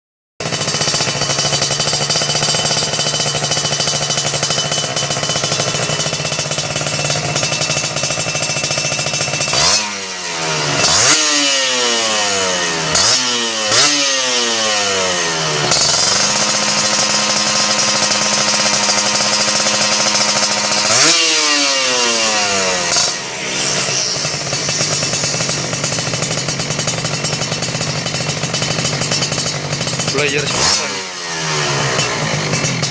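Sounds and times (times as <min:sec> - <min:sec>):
motorcycle engine idling and revving: 0:00.4 - 0:32.9.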